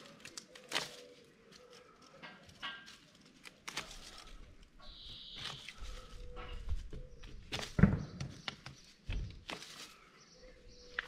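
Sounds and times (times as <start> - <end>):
leaves and stems rustling: 0.0 - 11.0.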